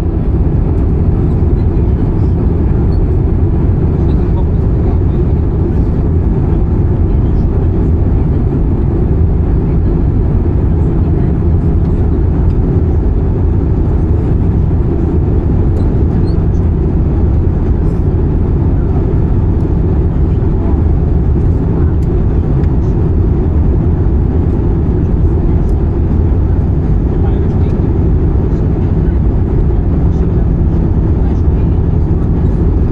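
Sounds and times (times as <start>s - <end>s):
airplane cabin rumble: 0.0s - 32.9s.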